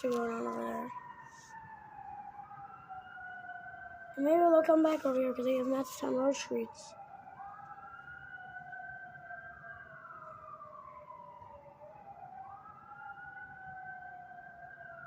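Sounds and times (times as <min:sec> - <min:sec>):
faint fire truck sirens wailing: 0:00.0 - 0:15.0.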